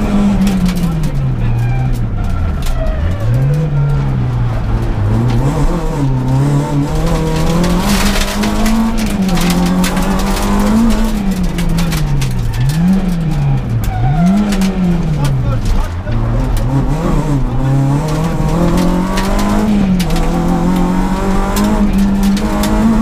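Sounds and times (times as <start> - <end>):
car engine revving hard: 3.4 - 23.0.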